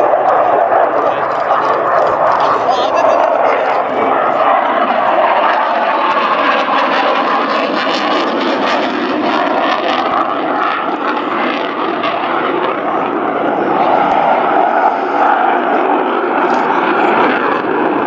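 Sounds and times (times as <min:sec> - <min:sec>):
loud steady jet noise: 0:00.0 - 0:18.0.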